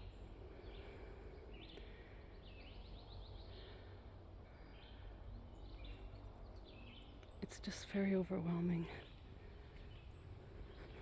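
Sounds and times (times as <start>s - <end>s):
low background rumble: 0.0s - 11.0s
wild birds chirping: 0.0s - 11.0s.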